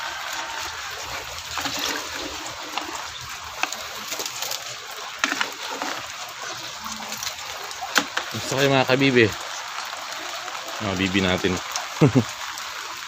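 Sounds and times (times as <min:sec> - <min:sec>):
grain splashing into water: 0:00.0 - 0:10.6
steady rain: 0:00.0 - 0:13.0
water dripping: 0:00.0 - 0:13.0.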